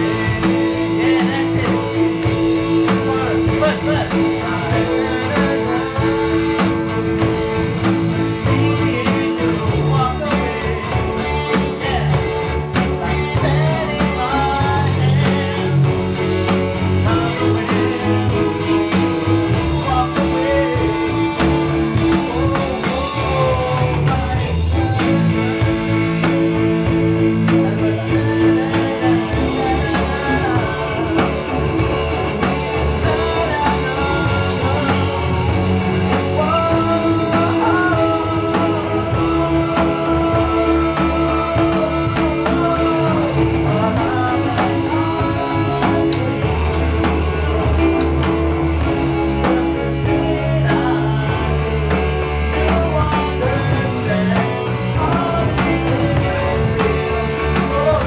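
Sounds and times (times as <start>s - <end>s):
electric bass: 0.0s - 58.0s
electric guitar: 0.0s - 58.0s
electronic drum beat: 0.0s - 58.0s.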